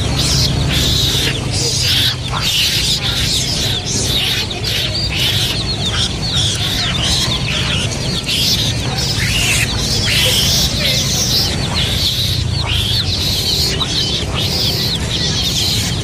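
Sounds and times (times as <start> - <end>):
chicks peeping: 0.0 - 16.0
steady low hum: 0.0 - 16.0.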